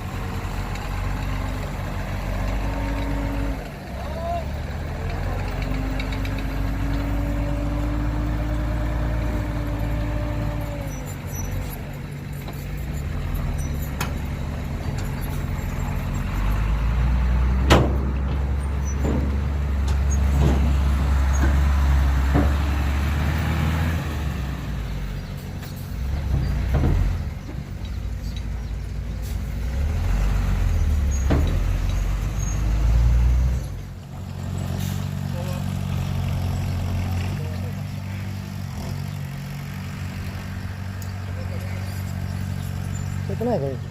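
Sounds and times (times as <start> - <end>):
heavy diesel engines rumbling: 0.0 - 43.9.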